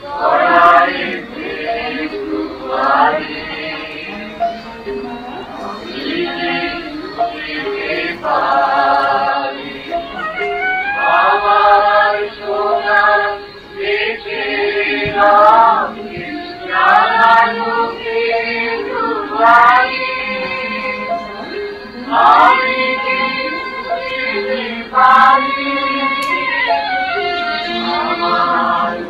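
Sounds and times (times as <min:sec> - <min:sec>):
voices singing a song: 0:00.0 - 0:29.0.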